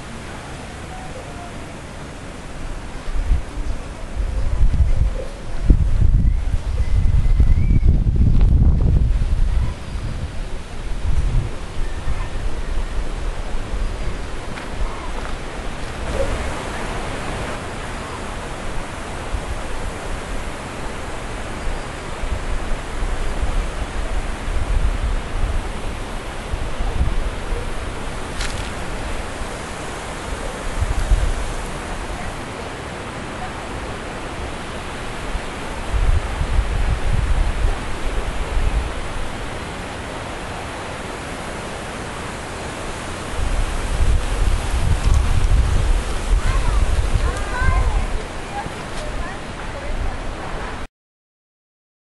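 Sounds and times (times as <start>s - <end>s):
steady outdoor hiss: 0.0s - 50.9s
wind buffeting microphone: 1.9s - 50.8s.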